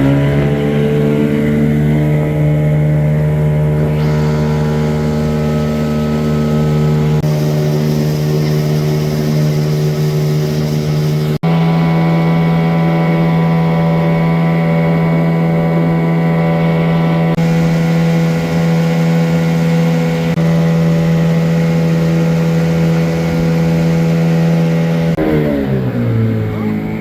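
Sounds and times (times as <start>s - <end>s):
boat motor running: 0.0s - 27.0s.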